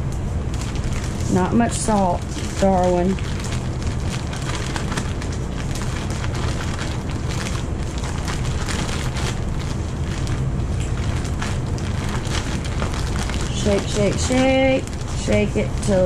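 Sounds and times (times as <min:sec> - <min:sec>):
dull handling rumble: 0:00.0 - 0:16.0
plastic bag crinkling: 0:00.4 - 0:16.0.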